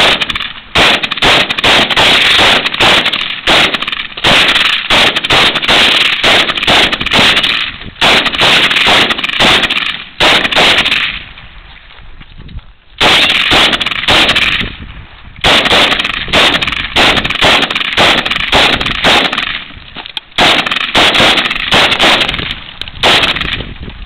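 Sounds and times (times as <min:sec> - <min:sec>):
rifle shots: 0:00.0 - 0:11.4, 0:13.0 - 0:14.8, 0:15.4 - 0:23.8.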